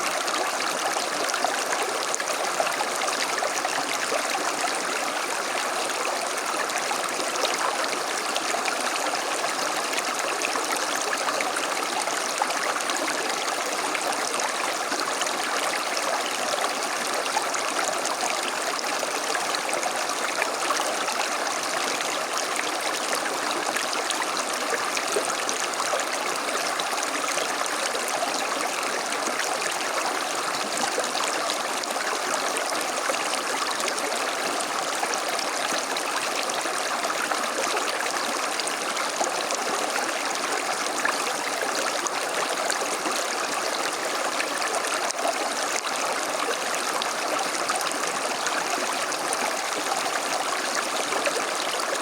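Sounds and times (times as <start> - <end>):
stream running over stones: 0.0 - 52.0.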